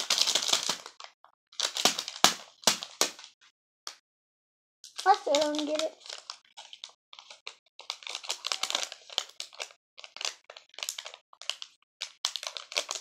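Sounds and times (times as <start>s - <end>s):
plastic packaging crinkling: 0.0s - 3.3s, 4.9s - 13.0s.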